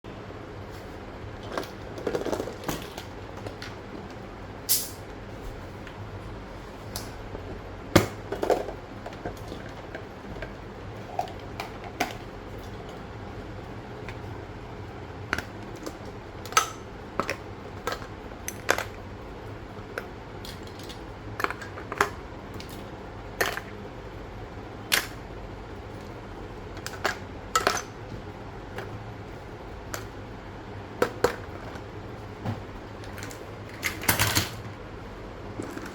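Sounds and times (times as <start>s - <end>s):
faint hum: 0.0s - 35.9s.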